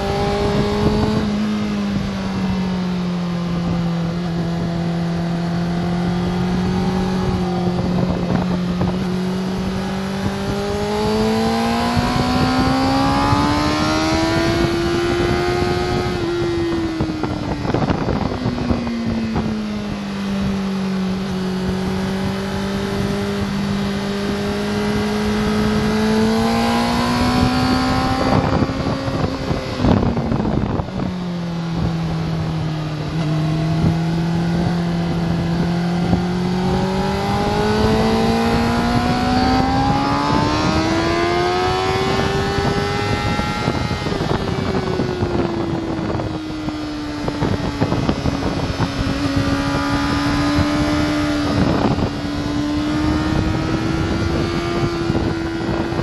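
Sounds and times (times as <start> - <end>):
motorcycle engine accelerating: 0.0 - 56.0
wind over microphone: 0.0 - 56.0.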